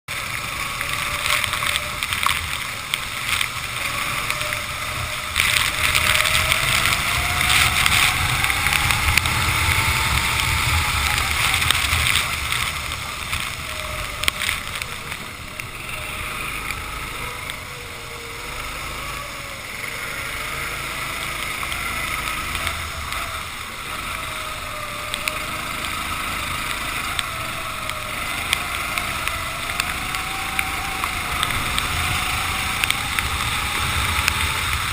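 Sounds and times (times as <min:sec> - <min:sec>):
kart engine revving: 0:00.0 - 0:34.9
wind and spray hiss: 0:00.1 - 0:34.9.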